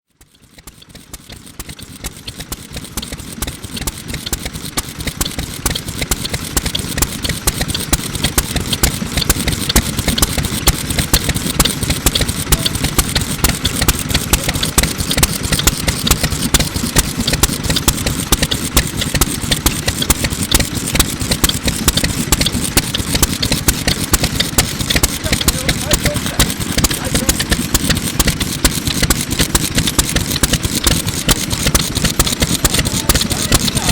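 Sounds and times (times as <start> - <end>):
oil engine exhaust popping: 0.1 - 33.9.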